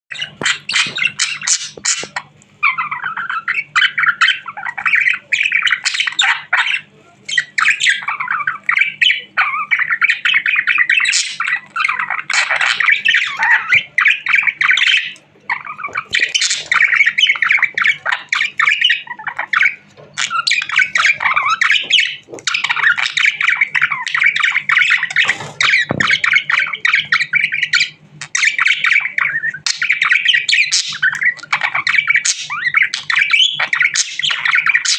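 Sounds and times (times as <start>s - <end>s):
budgerigar chattering and chirping: 0.1s - 34.9s.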